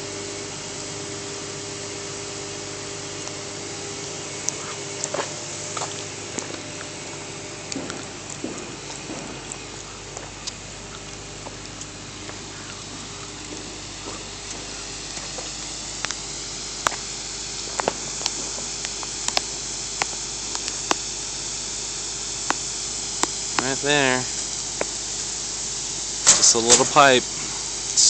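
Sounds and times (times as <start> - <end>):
water spraying under pressure: 0.0 - 28.0.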